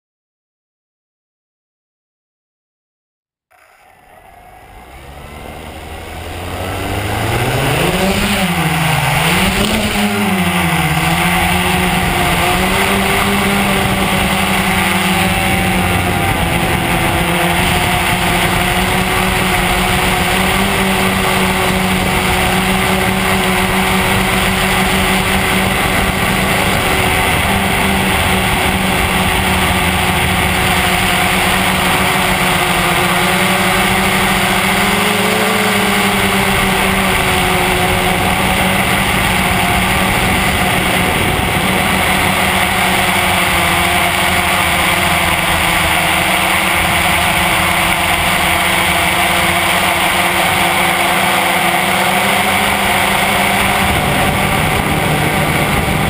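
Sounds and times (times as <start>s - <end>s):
quadcopter propellers buzzing: 3.5s - 56.0s.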